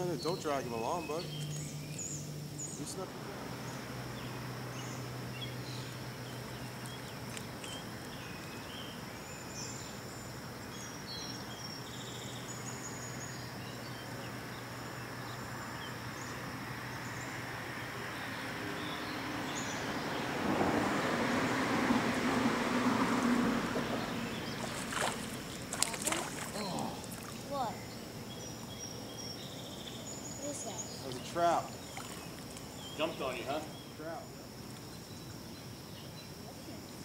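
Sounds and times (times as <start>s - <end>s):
birds chirping: 0.0s - 22.2s, 23.1s - 37.0s
high insect drone: 0.0s - 37.0s.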